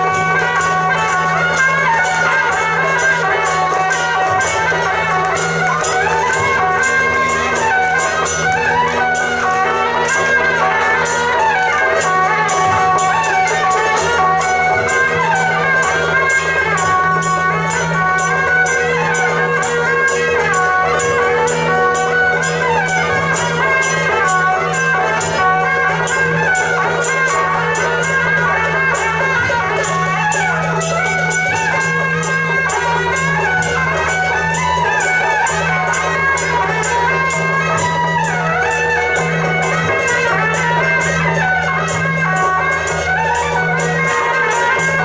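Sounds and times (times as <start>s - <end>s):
fast percussion beat: 0.0s - 45.0s
reedy wind melody: 0.0s - 45.0s.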